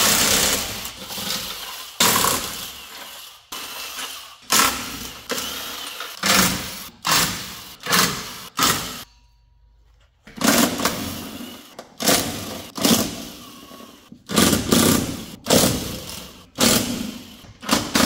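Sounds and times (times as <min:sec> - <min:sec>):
impact wrench bursts: 0:00.0 - 0:09.1, 0:10.4 - 0:18.0.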